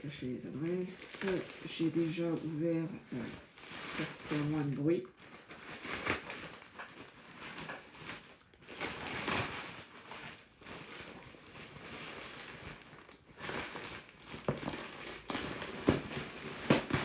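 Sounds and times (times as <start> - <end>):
cardboard and plastic crinkling: 0.1 - 17.0.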